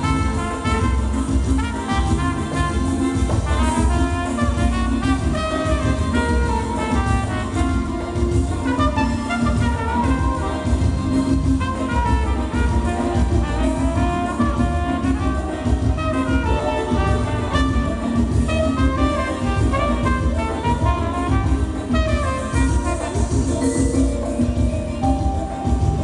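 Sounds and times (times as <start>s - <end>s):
brass horns playing melody: 0.0s - 26.0s
dance band playing: 0.0s - 26.0s
steady bass beat: 0.0s - 26.0s.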